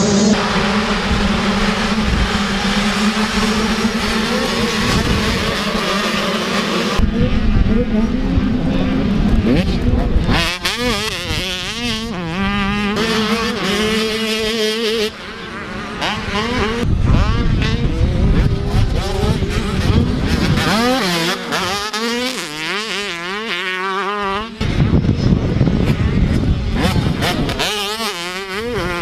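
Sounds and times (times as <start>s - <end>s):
motocross bikes revving: 0.0s - 29.0s.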